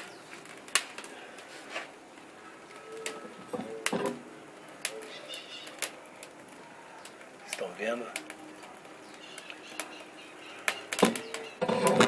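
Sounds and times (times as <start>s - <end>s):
fire crackling and popping: 0.0s - 12.0s.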